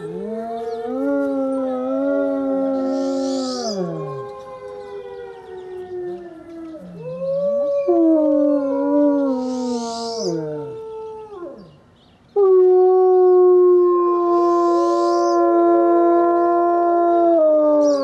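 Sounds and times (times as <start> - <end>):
wolves howling: 0.0 - 11.8, 12.4 - 18.0.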